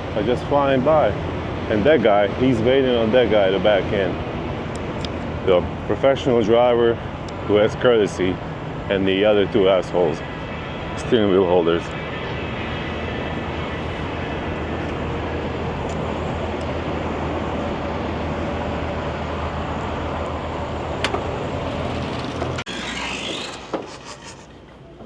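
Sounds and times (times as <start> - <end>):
diesel truck engine running: 0.0 - 25.0
road noise: 0.0 - 25.0.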